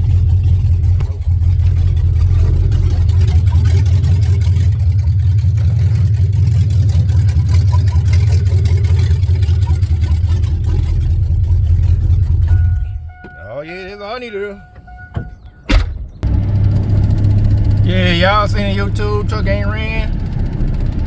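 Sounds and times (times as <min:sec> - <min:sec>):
vehicle engine and road drone: 0:00.0 - 0:21.0.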